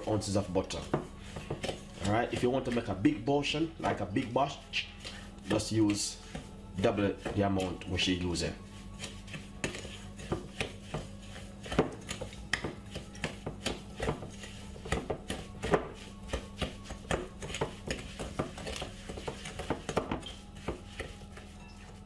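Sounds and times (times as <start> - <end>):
wooden spoon scraping glass bowl: 0.0 - 22.0.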